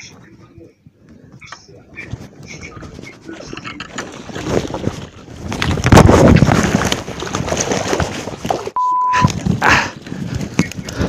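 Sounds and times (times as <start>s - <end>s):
camera jostled among dry reeds: 1.4s - 11.0s.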